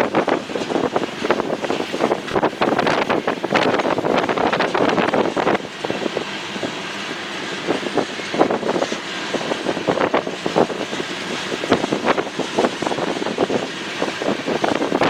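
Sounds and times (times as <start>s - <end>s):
clanks and clatter from train cars: 0.0s - 15.0s
train rumbling past: 0.0s - 15.0s
wind on microphone: 0.0s - 15.0s.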